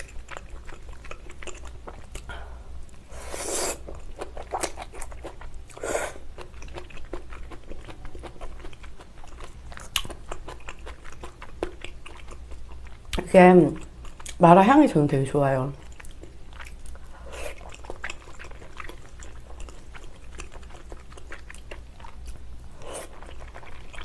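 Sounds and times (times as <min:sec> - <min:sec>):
wet chewing: 0:00.0 - 0:03.1, 0:03.7 - 0:14.4, 0:15.7 - 0:24.0.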